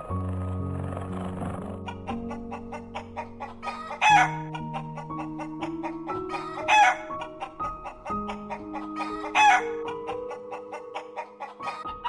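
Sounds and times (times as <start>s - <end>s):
background music with low notes: 0.0s - 12.0s
chicken calls: 1.8s - 12.0s.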